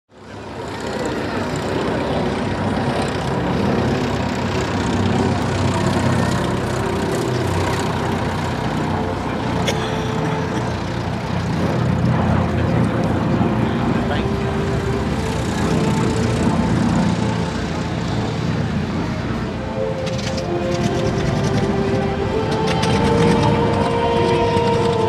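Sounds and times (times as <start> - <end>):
aircraft piston engines running: 0.1 - 25.0.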